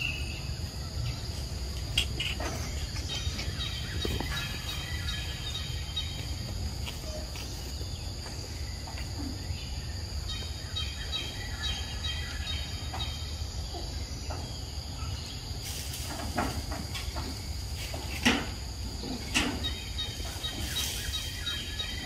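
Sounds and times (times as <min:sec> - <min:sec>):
birds chirping: 0:00.0 - 0:22.0
insects trilling: 0:00.0 - 0:22.0.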